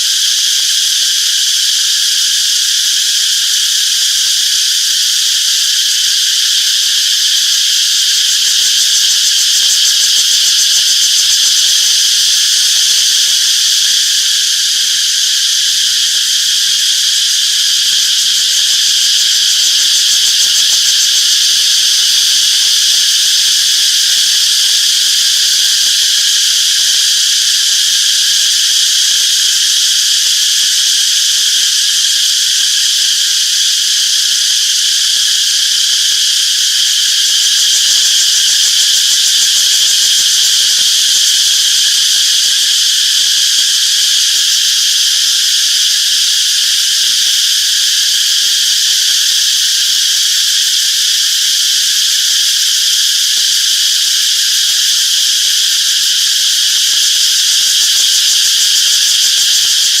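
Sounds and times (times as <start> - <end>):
cicadas buzzing: 0.0 - 60.0.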